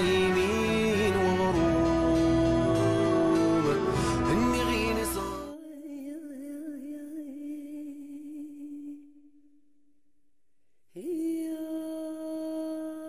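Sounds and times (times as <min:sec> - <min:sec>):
person singing unaccompanied: 0:00.0 - 0:09.0, 0:11.0 - 0:13.0.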